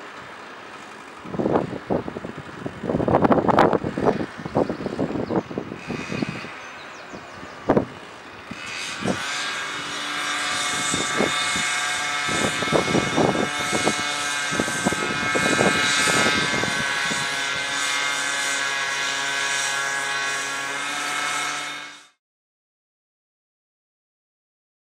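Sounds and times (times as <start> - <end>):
power tool cutting brickwork: 0.0 - 22.2.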